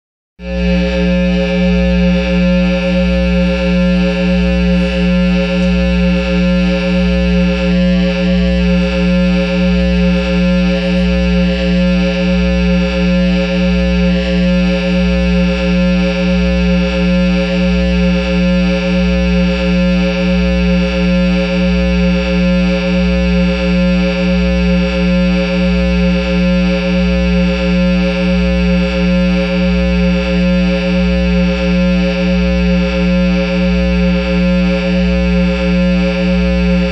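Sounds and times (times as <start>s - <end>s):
guitar amplifier drone: 0.4s - 36.9s.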